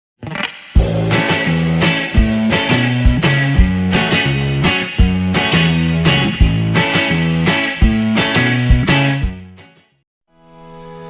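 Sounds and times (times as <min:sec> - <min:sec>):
guitar strumming chords: 0:00.2 - 0:10.0.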